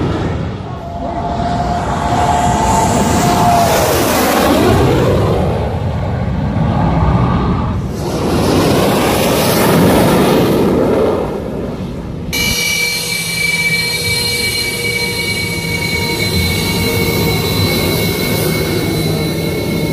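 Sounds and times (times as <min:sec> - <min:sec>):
jet engine roar: 0:00.0 - 0:19.9
jet engines whining over rumble: 0:00.0 - 0:19.9.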